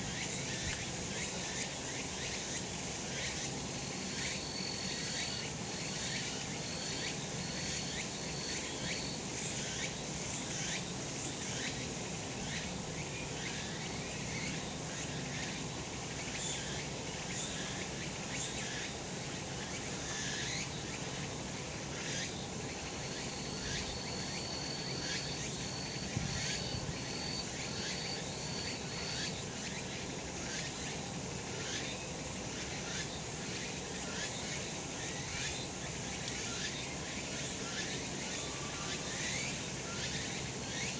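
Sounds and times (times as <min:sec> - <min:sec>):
cicadas singing: 0:00.0 - 0:40.9.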